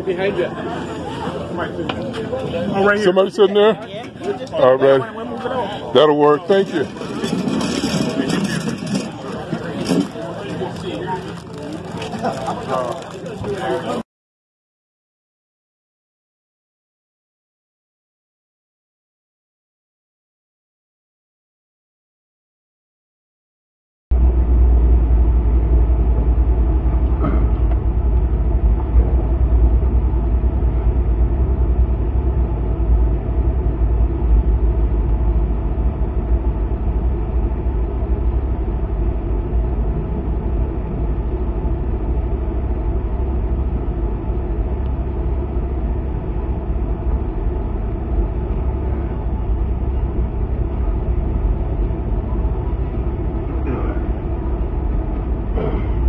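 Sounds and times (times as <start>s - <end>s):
car engine inside cabin: 0.0s - 14.0s, 24.1s - 56.0s.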